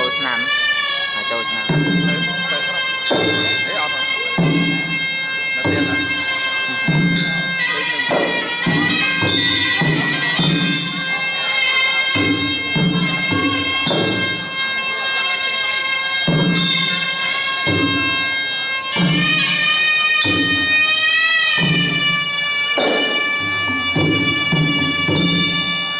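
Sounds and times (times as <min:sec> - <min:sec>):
regular drum beats: 0:00.0 - 0:11.4, 0:12.1 - 0:14.7, 0:16.3 - 0:25.9
reed oboe wavering melody: 0:00.0 - 0:25.9.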